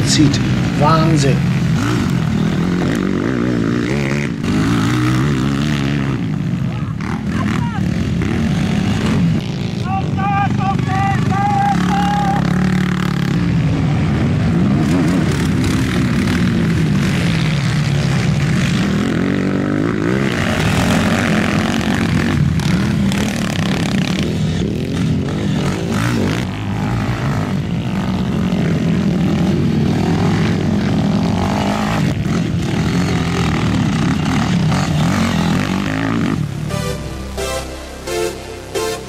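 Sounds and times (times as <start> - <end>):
quad bike engines revving: 0.0 - 39.0.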